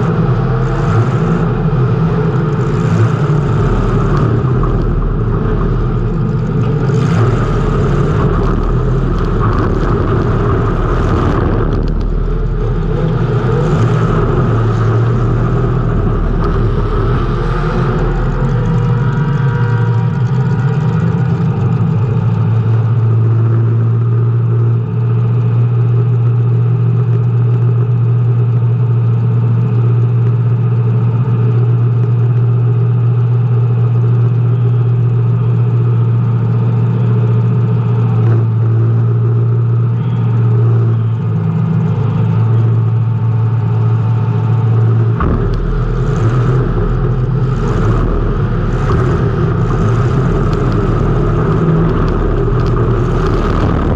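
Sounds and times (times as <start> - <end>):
race car engine at high revs: 0.0 - 53.9.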